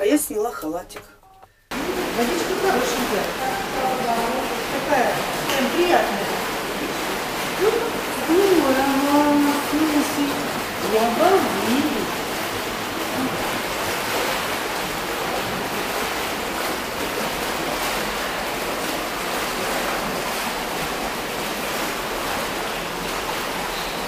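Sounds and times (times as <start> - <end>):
water sloshing in pool: 1.7 - 24.0.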